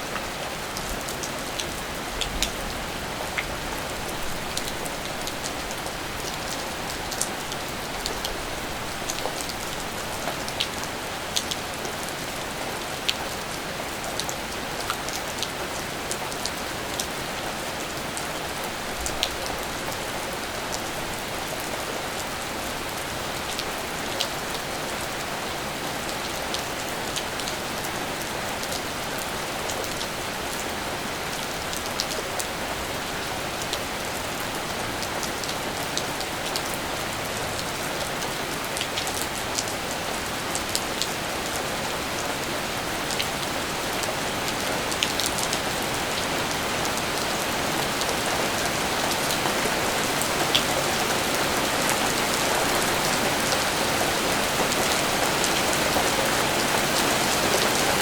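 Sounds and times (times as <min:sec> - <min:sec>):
raindrops ticking on surfaces: 0:00.0 - 0:58.0
steady rain falling: 0:00.0 - 0:58.0.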